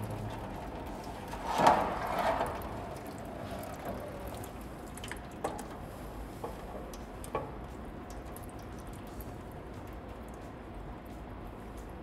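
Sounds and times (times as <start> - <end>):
coolant dripping into metal pan: 0.0 - 10.5.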